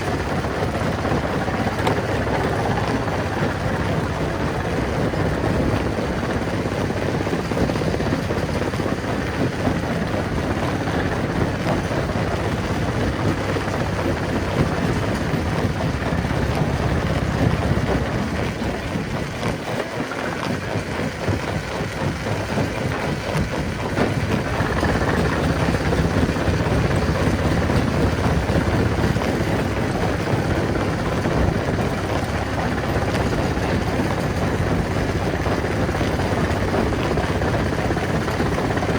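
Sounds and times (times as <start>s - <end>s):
rock crushing machine drone: 0.0s - 38.9s.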